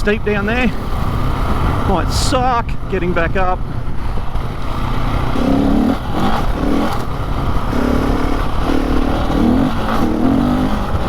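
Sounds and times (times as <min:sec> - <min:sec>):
gravel rumble: 0:00.0 - 0:11.0
motorcycle engine revving: 0:00.0 - 0:11.0.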